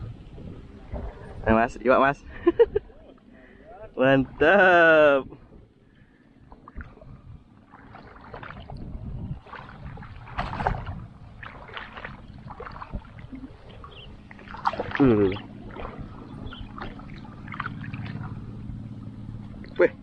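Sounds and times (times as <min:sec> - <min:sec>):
water sloshing and splashing: 0:00.0 - 0:02.0, 0:03.0 - 0:20.0.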